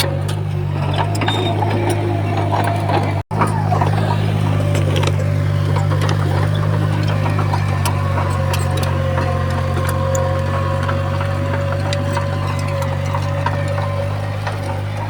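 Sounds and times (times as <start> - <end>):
bulldozer diesel engine running: 0.0 - 15.0
clanks and squeaks from tracks: 0.0 - 15.0.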